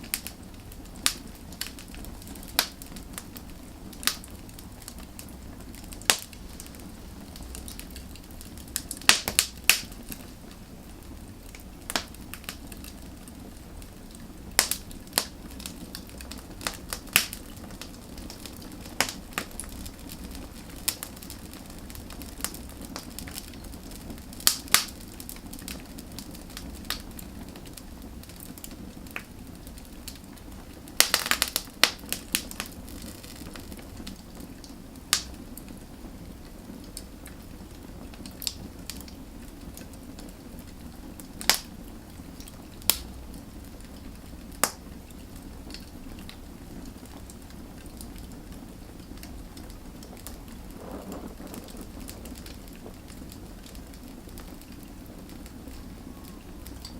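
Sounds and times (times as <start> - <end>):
fire crackles and pops: 0.0 - 56.9
firewood burning with hiss: 0.0 - 56.9.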